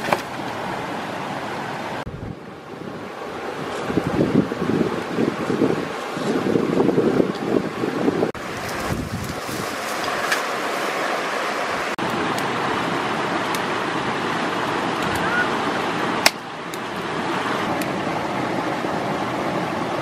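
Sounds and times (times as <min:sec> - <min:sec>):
rocky stream rushing: 0:02.8 - 0:20.0.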